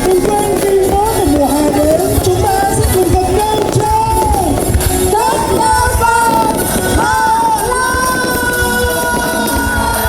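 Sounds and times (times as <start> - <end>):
person singing: 0.0 - 10.0
pop song with heavy bass: 0.0 - 10.0.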